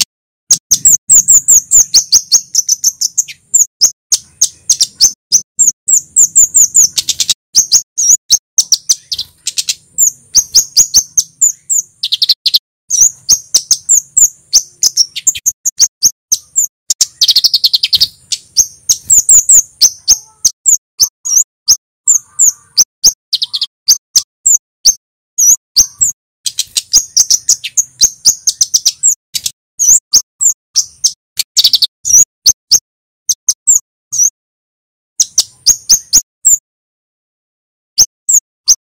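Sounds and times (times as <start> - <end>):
bird singing high sharp notes: 0.0 - 34.4, 35.2 - 36.6, 37.9 - 38.8.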